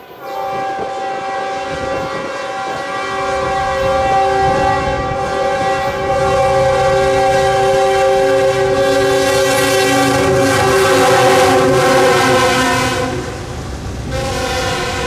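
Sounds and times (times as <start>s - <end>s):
locomotive air horn blast: 0.1s - 15.0s.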